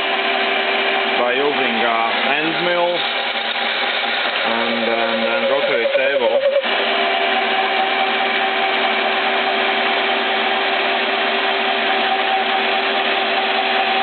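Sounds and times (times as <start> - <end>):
milling machine cutting steel: 0.0 - 14.0.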